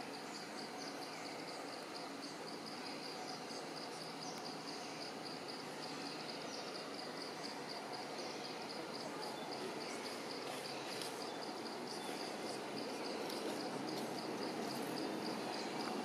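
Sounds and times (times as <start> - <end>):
background hiss: 0.0 - 16.0
insects chirring: 0.0 - 16.0.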